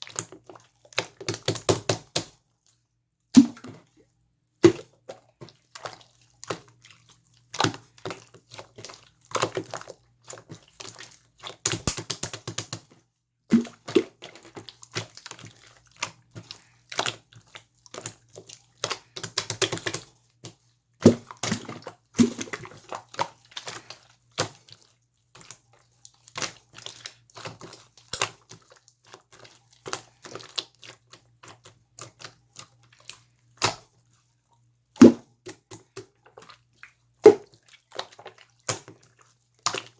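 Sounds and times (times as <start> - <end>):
slime squelching by hand: 0.0 - 2.8, 3.4 - 39.9.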